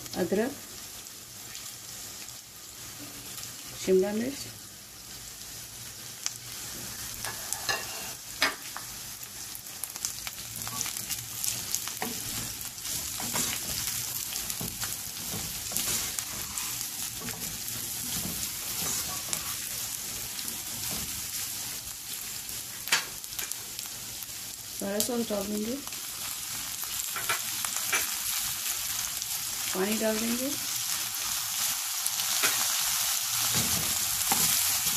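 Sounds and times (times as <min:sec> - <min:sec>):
food sizzling in oil: 0:00.0 - 0:34.9.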